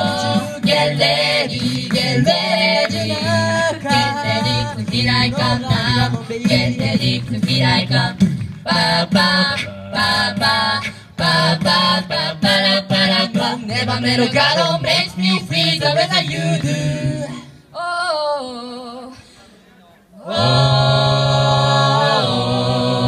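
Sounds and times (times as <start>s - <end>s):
a cappella group singing: 0.0s - 17.8s, 20.2s - 23.0s.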